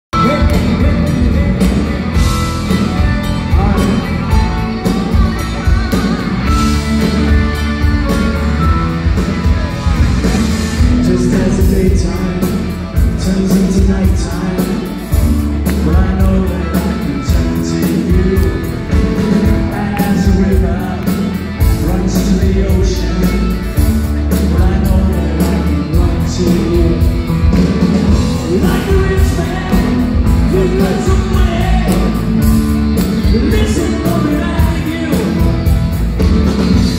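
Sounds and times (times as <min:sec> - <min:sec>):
live rock band playing: 0:00.1 - 0:36.9.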